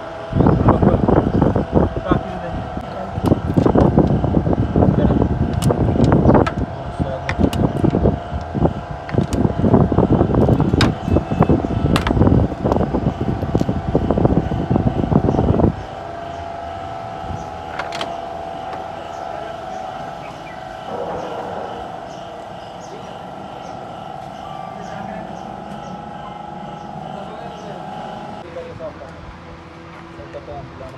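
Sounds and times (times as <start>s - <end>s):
indistinct voices: 0.0s - 29.2s
electric fan humming: 0.0s - 30.9s
loud irregular noise: 0.0s - 30.9s.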